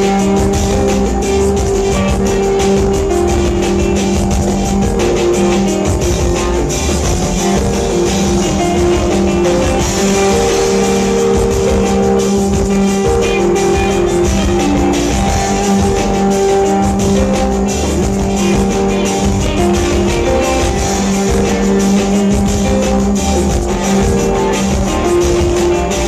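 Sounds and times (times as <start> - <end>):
electric guitar: 0.0 - 26.0
steady drum beat: 0.0 - 26.0.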